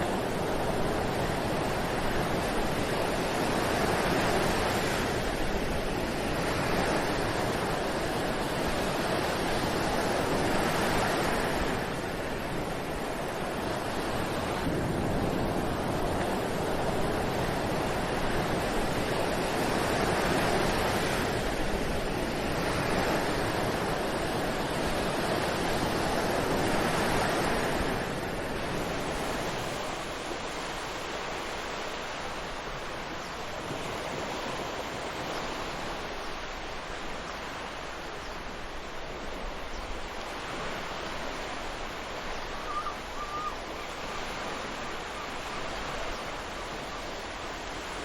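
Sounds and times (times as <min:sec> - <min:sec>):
ocean waves on beach: 0:00.0 - 0:48.0.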